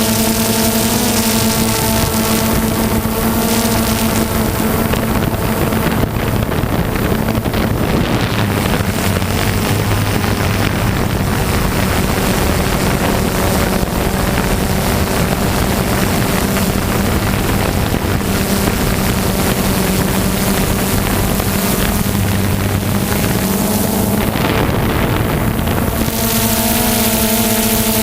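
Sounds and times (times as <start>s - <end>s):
propeller aircraft engine drone: 0.0s - 28.0s
wind buffeting microphone: 0.0s - 28.0s.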